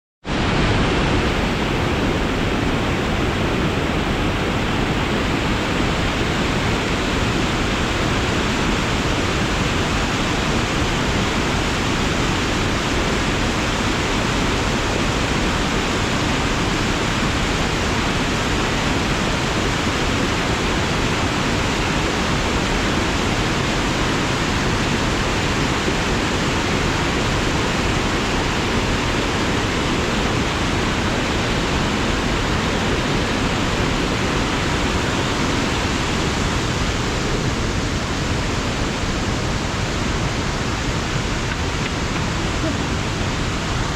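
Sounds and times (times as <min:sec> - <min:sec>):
waterfall rushing over rocks: 0:00.2 - 0:43.9.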